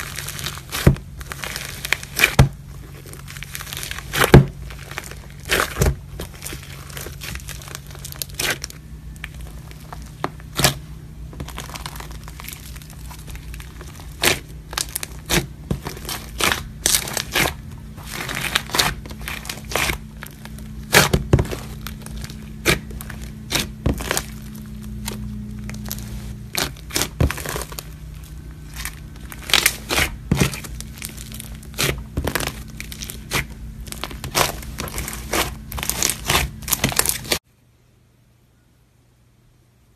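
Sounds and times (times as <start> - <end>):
slime crackling and popping: 0.0 - 37.4.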